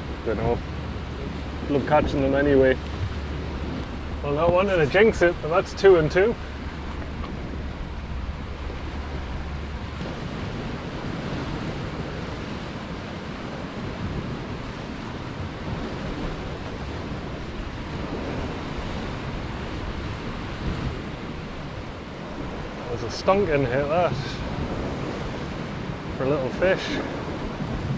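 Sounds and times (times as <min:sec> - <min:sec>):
surf washing against rocks: 0:00.0 - 0:27.9
wind on microphone: 0:00.0 - 0:27.9.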